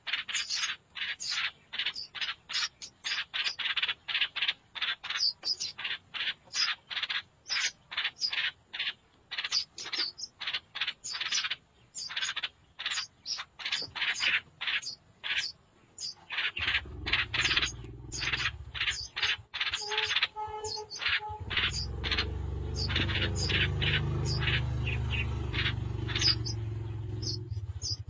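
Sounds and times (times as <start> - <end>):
nestling birds begging calls: 0.0 - 28.0.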